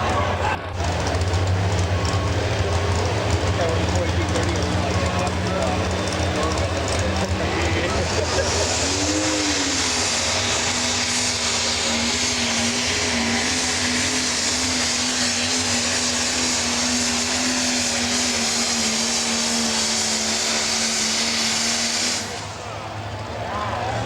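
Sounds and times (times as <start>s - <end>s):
diesel engine at full throttle: 0.0s - 24.0s.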